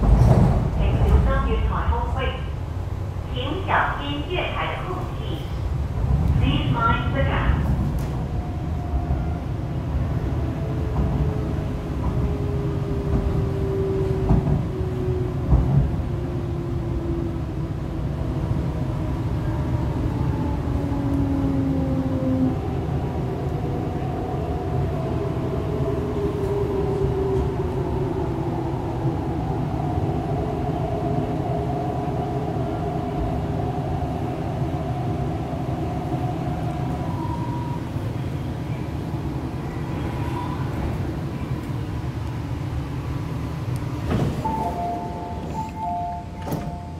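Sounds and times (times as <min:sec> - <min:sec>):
train running rumble: 0:00.0 - 0:46.9.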